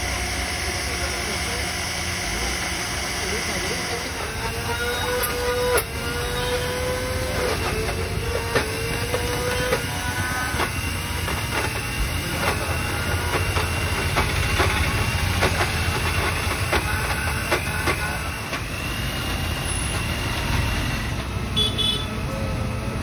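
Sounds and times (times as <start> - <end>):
blender whining: 0.0 - 23.0.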